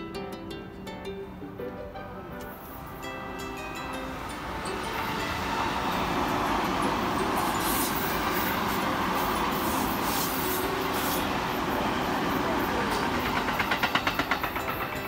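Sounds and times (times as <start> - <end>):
train wheels rumbling on rails: 2.4 - 15.0.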